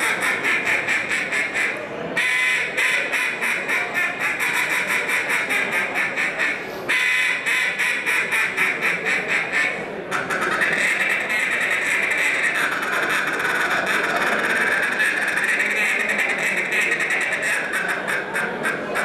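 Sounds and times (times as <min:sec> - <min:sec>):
duck call quacking notes: 0:00.0 - 0:19.0.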